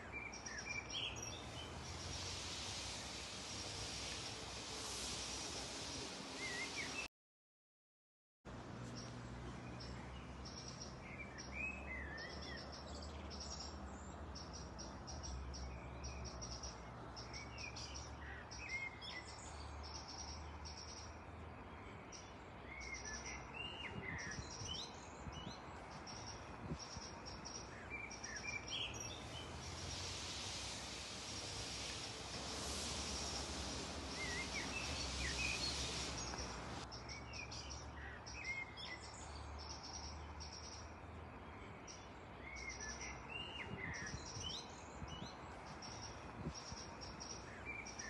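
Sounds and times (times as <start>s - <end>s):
birds chirping: 0.0s - 5.0s, 5.6s - 7.1s, 8.8s - 48.0s.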